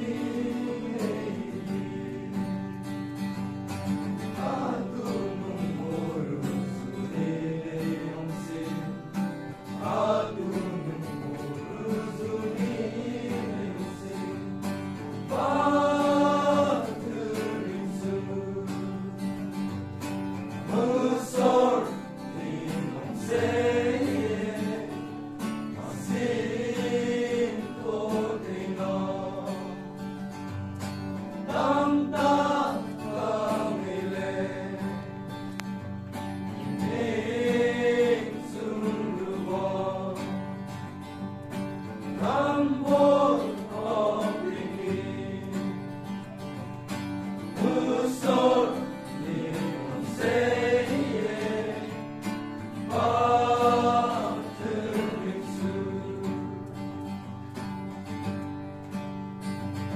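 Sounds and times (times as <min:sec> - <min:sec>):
male choir singing a hymn: 0:00.0 - 0:35.6, 0:36.5 - 0:41.0, 0:41.8 - 0:46.3, 0:47.2 - 0:56.9.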